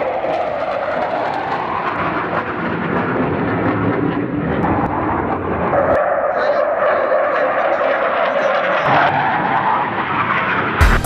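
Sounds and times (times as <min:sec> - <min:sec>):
jet flying overhead: 0:00.0 - 0:11.0.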